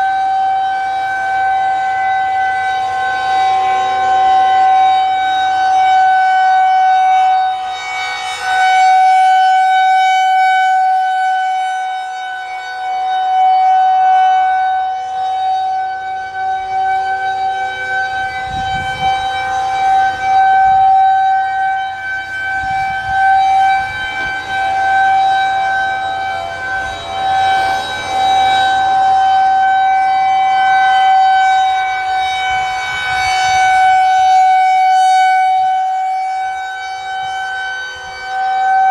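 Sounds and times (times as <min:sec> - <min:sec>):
rotating tornado siren: 0:00.0 - 0:38.9.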